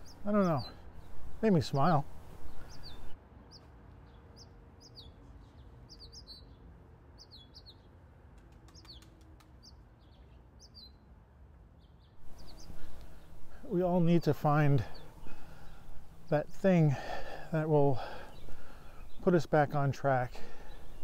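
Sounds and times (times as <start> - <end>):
small birds chirping: 0.0 - 8.0, 8.6 - 11.1, 11.8 - 21.0.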